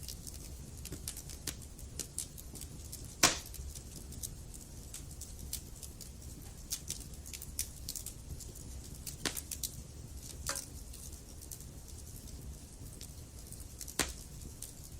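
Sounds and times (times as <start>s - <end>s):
low rumble of burning: 0.0s - 14.9s
wood fire crackling and popping: 0.0s - 14.9s.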